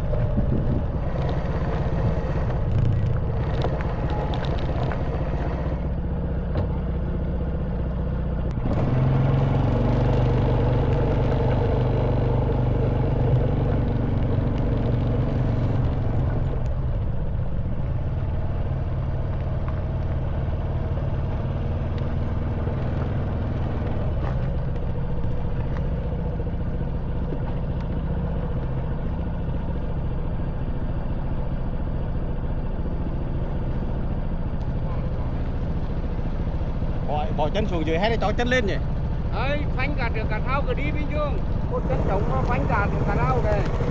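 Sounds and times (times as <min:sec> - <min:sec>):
motorbike engine running: 0:00.0 - 0:07.0, 0:07.8 - 0:43.9.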